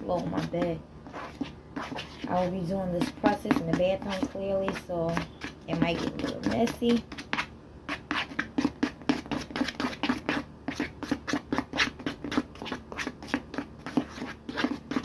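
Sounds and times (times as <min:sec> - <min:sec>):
brush scraping paste in plastic tray: 0:00.0 - 0:15.0.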